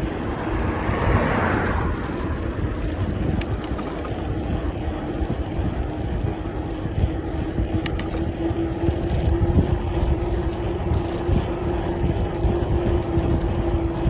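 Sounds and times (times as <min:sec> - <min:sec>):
bicycle tyres rumbling: 0:00.0 - 0:14.0
steady whine: 0:00.0 - 0:14.0
wind buffeting microphone: 0:00.0 - 0:14.0.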